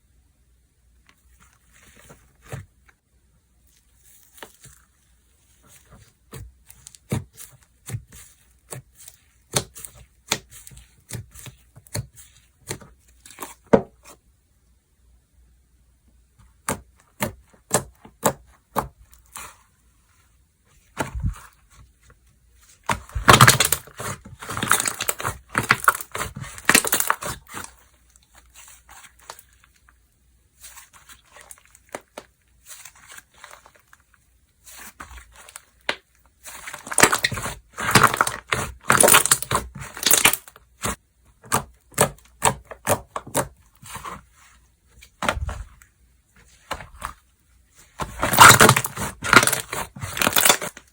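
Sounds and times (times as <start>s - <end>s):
slime crackling and squishing: 3.6s - 14.2s, 16.5s - 50.9s.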